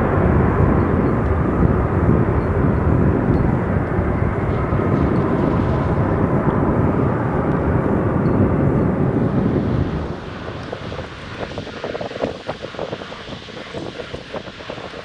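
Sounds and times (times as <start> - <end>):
airliner jet engines running: 0.0 - 15.0.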